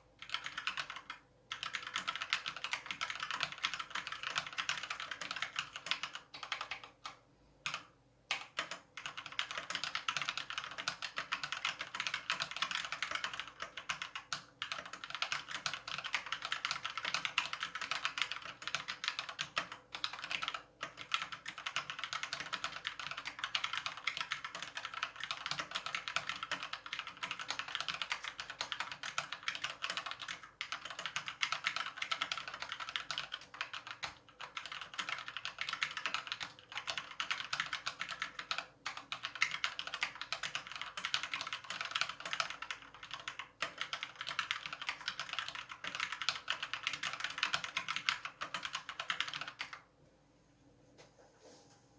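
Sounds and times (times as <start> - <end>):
fast keyboard typing: 0.2 - 49.8.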